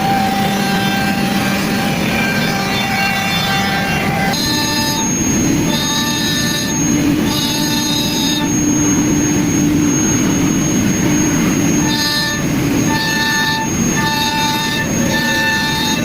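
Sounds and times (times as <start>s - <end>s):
pitched tone: 0.0s - 16.0s
wood lathe running: 0.0s - 16.0s.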